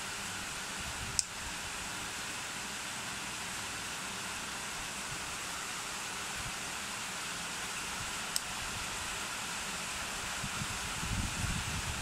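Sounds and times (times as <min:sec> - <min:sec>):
fan rushing air: 0:00.0 - 0:12.0.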